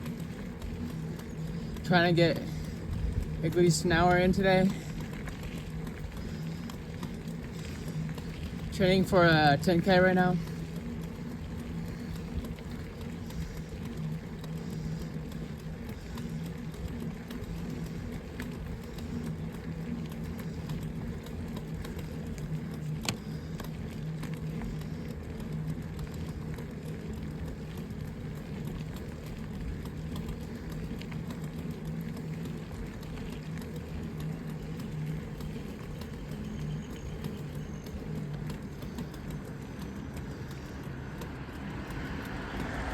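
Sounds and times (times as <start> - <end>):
bike tyres rolling: 0.0 - 42.9.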